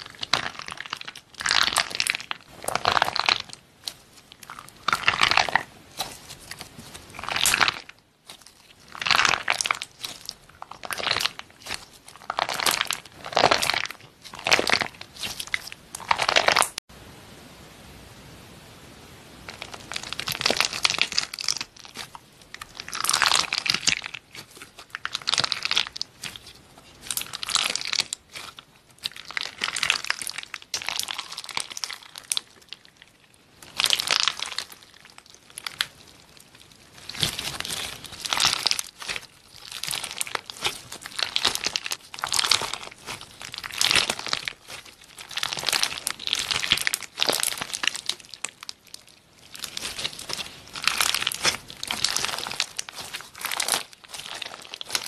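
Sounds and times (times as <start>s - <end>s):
slime crackling and popping: 0.0s - 16.8s, 19.5s - 55.0s.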